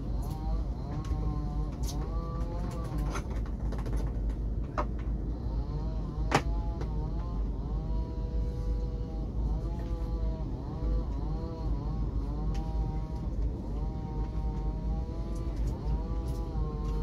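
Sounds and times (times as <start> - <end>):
motor whining: 0.0 - 3.5, 5.2 - 17.0.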